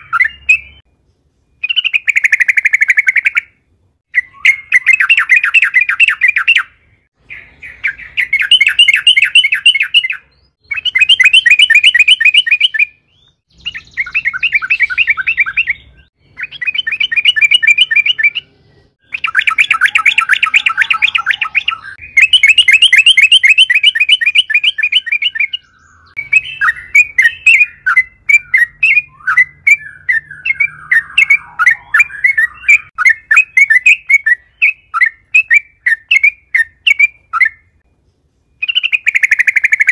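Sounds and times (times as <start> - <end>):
bird singing rapid chattering notes: 0.0 - 0.9, 1.6 - 39.9.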